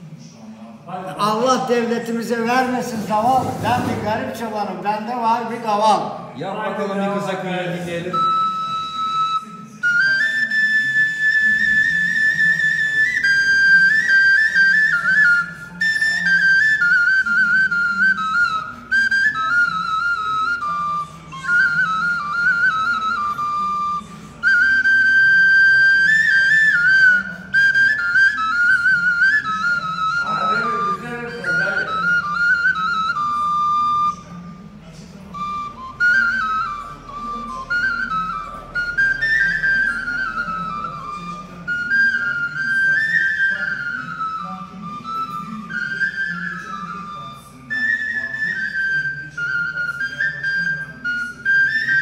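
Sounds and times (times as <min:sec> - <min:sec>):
end-blown flute folk melody: 0:08.1 - 0:52.0.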